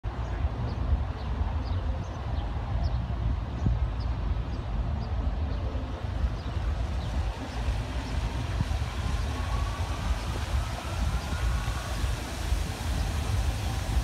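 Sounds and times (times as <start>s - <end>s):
low uneven rumble: 0.1s - 14.0s
fountain water hissing and splashing: 0.2s - 14.0s.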